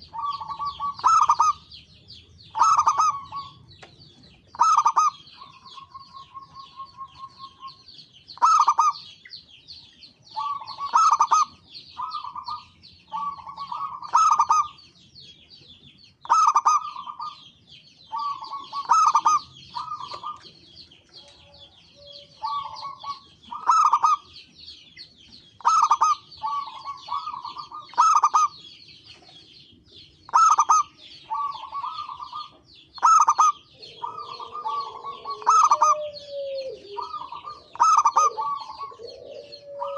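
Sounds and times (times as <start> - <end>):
dove cooing: 0.0 - 3.9, 4.5 - 9.2, 10.3 - 14.8, 16.2 - 24.4, 25.6 - 29.7, 30.3 - 39.9.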